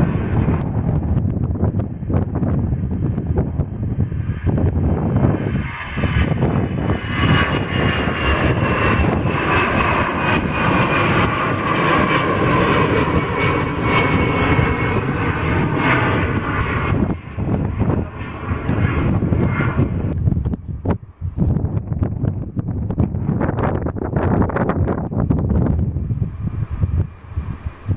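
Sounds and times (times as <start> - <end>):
airliner engines whining: 0.0 - 27.9.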